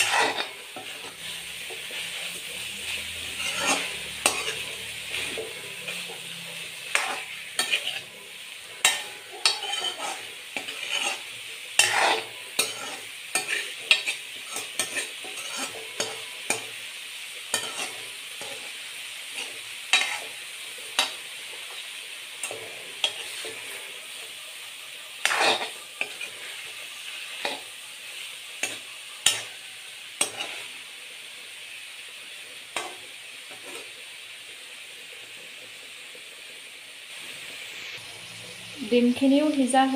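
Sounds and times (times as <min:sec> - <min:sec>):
spatula scraping a pan: 0:00.0 - 0:36.4
food sizzling in a pan: 0:00.0 - 0:39.9.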